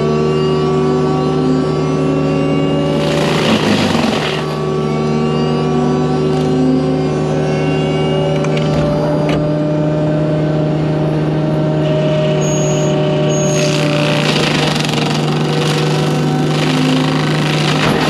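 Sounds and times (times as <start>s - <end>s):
forestry mulcher engine humming: 0.0s - 18.0s.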